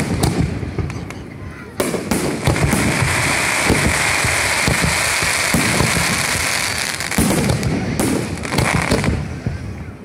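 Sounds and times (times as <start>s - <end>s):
fireworks booming: 0.0s - 10.0s
fireworks crackling: 0.0s - 10.0s.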